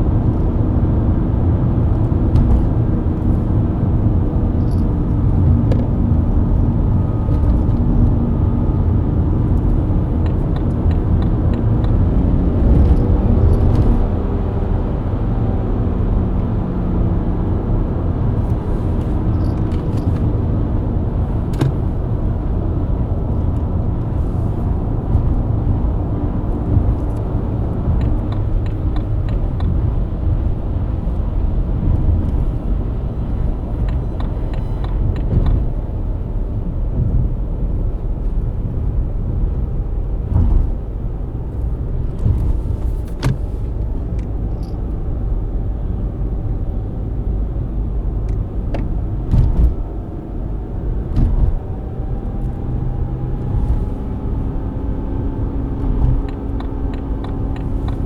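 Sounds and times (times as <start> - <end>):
car engine running: 0.0 - 37.4, 40.1 - 58.0
road rumble: 0.0 - 58.0.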